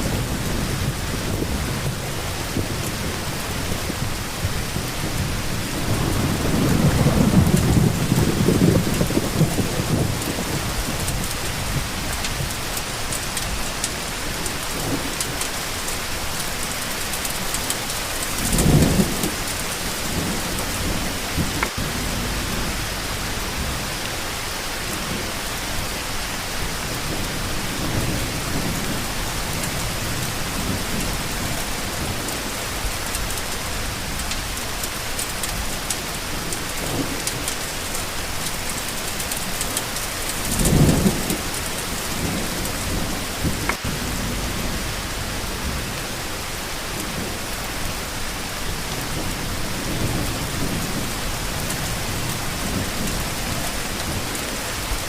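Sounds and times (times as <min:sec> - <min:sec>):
steady rain falling: 0:00.0 - 0:55.0
thunder rumbling: 0:00.0 - 0:55.0.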